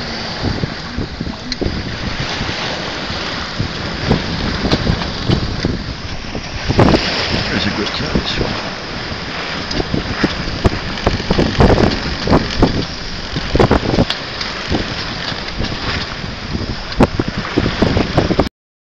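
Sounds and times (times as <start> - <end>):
water rushing along a hull: 0.0 - 18.5
wind buffeting microphone: 0.0 - 18.5.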